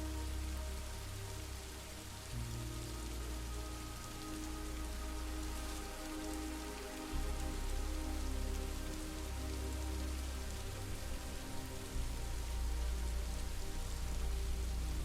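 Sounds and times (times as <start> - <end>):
ambient synth music: 0.0 - 15.0
steady rain falling: 0.0 - 15.0.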